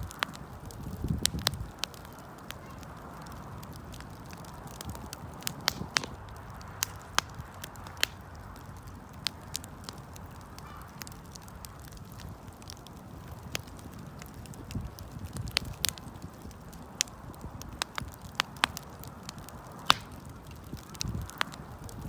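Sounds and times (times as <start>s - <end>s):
burning wood crackling and popping: 0.0s - 22.0s
campfire flames rushing: 0.0s - 22.0s.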